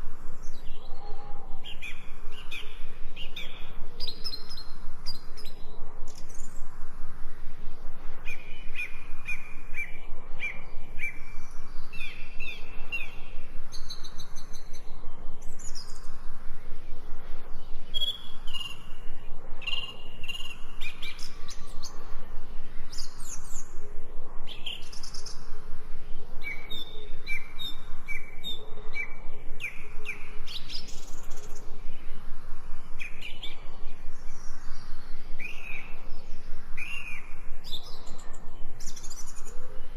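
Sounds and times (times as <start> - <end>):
steady background hiss: 0.0 - 39.9
songbirds chirping and singing: 0.1 - 6.8, 7.5 - 39.9.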